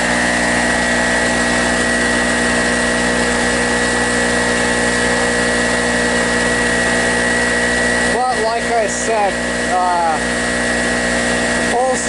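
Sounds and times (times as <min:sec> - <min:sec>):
portable generator engine running: 0:00.0 - 0:12.0
steady high whine: 0:00.0 - 0:12.0.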